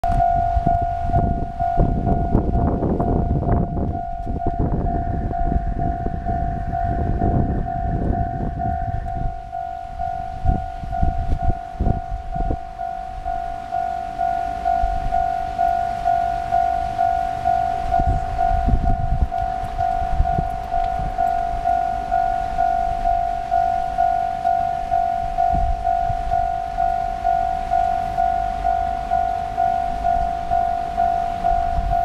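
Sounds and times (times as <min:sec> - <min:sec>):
level-crossing alarm bell: 0:00.0 - 0:32.0
wind rumbling on microphone: 0:00.0 - 0:32.0.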